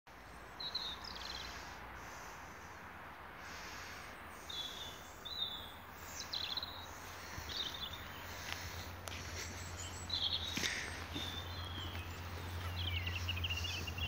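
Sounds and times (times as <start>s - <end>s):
outdoor background hiss: 0.1s - 14.0s
small birds chirping: 0.1s - 14.0s.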